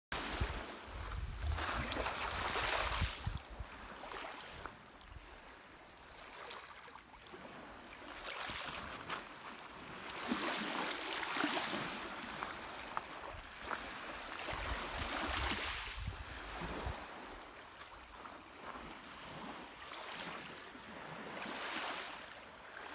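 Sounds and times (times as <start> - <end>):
waves lapping on pebble shore: 0.2 - 22.9.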